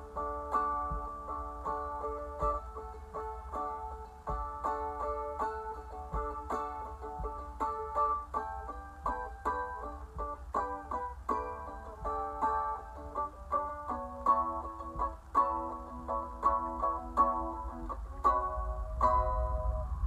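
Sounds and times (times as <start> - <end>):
mandolin picked quickly: 0.0 - 20.0.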